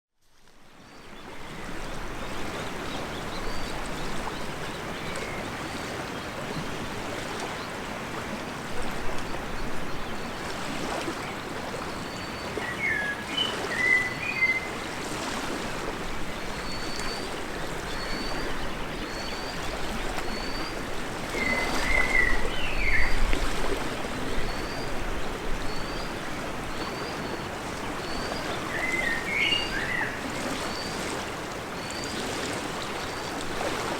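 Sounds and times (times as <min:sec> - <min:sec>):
rushing water: 0:00.3 - 0:33.9.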